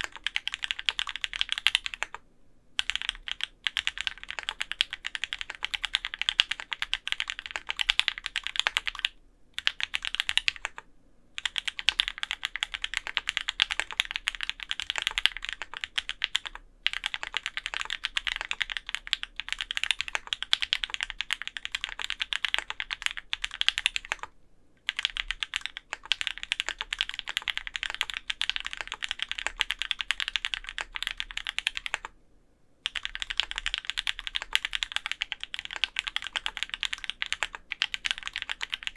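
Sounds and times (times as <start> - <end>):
fast typing on mechanical keyboard: 0.0 - 2.2, 2.8 - 10.8, 11.4 - 32.2, 32.8 - 38.9.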